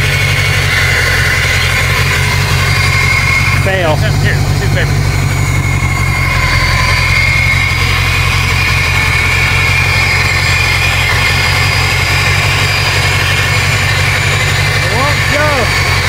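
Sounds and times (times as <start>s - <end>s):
car engine lopey idle: 0.0s - 16.0s
turbocharger high whistle: 0.0s - 16.0s.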